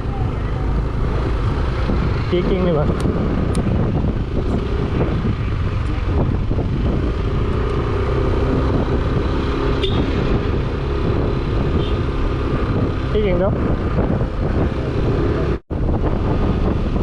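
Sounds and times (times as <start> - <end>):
road rumble: 0.0 - 17.0
wind over microphone: 0.0 - 17.0.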